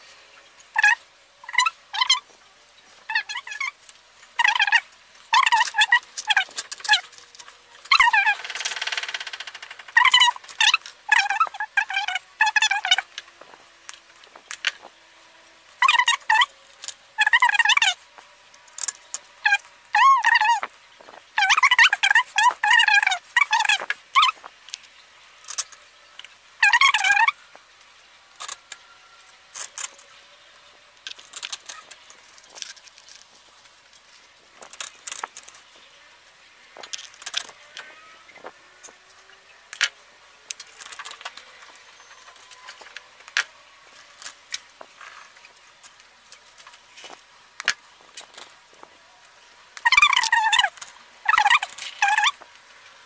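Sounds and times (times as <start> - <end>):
plastic foliage rustling and crackling: 0.0 - 53.0.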